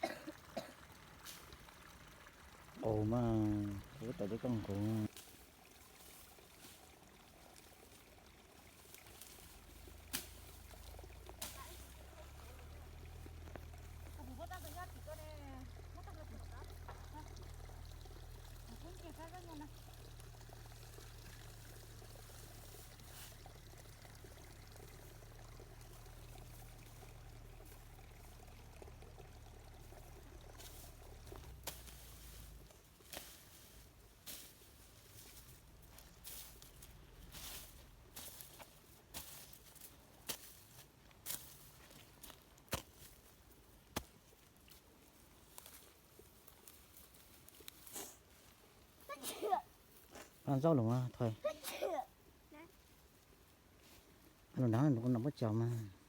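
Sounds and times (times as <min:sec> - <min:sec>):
faint outdoor hiss: 0:00.0 - 0:56.0
trickling water: 0:00.0 - 0:56.0.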